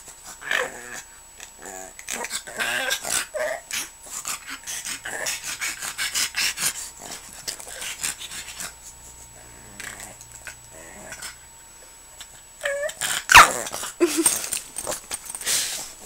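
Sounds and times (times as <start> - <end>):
dog growling and yelping: 0.2 - 11.5, 12.2 - 15.9.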